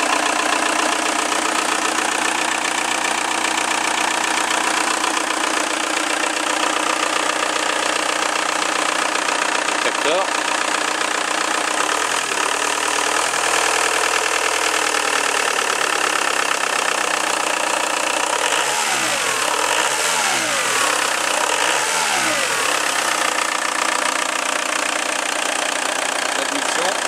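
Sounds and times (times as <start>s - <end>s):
diesel engine idling and revving: 0.0s - 27.0s.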